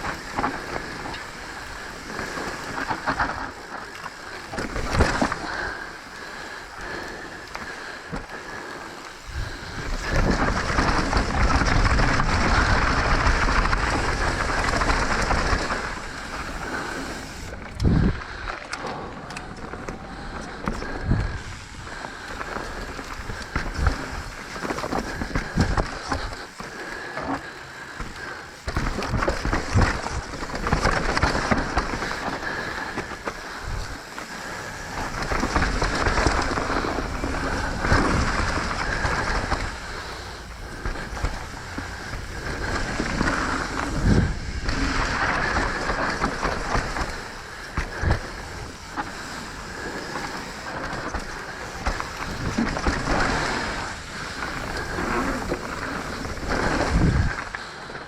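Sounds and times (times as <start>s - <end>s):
bike tyres rolling on dirt: 0.0s - 58.0s
bike knocks and rattles: 9.2s - 57.6s.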